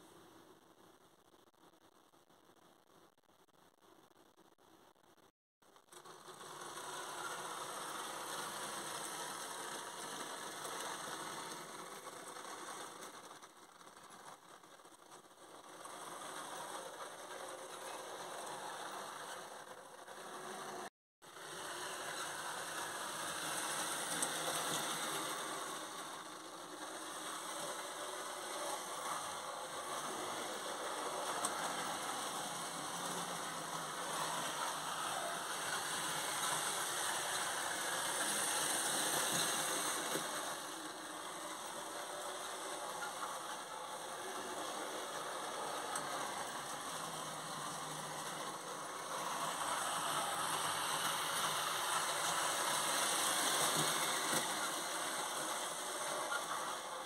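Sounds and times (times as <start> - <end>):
model trains whirring and rattling: 5.6 - 57.0.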